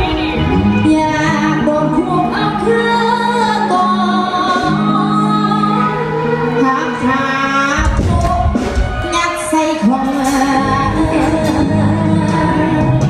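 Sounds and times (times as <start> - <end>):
band music: 0.0 - 13.0
woman singing: 0.0 - 13.0.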